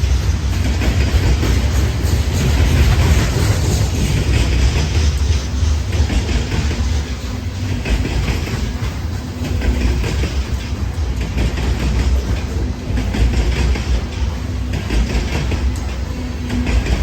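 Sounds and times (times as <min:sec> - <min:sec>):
train wheels rumbling on rail: 0:00.0 - 0:17.0
wheels clacking over rail joints: 0:00.0 - 0:17.0.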